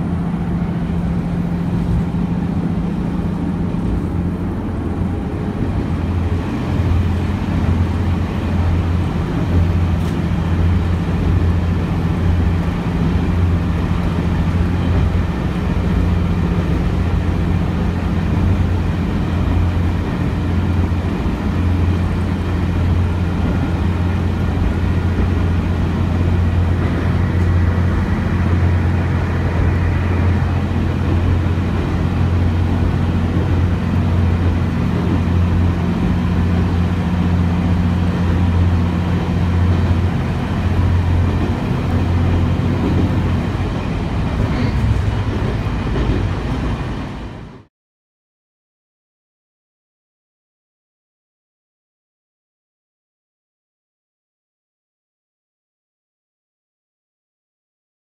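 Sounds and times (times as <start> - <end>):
diesel railcar engine humming: 0.0 - 47.7.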